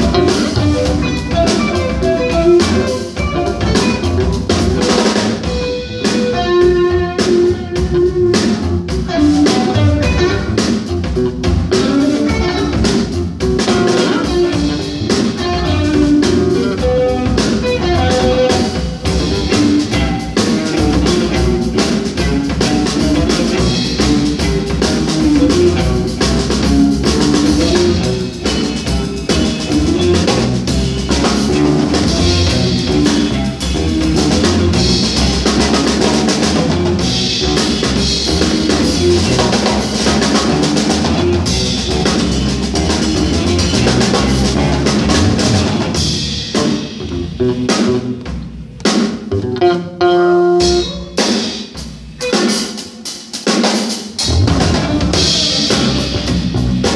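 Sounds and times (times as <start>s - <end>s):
electric bass: 0.0s - 52.5s, 54.2s - 56.9s
busy drumming: 0.0s - 56.9s
electric guitar: 0.0s - 56.9s.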